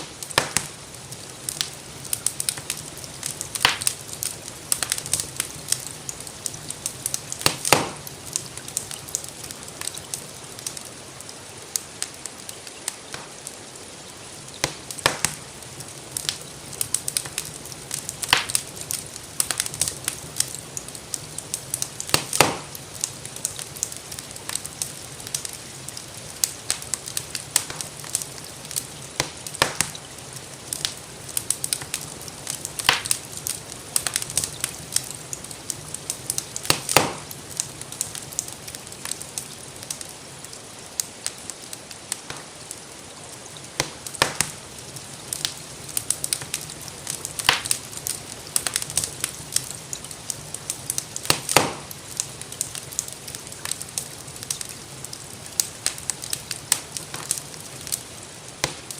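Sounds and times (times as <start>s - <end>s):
rain hissing: 0.0s - 58.9s
wood fire crackling: 0.0s - 58.9s.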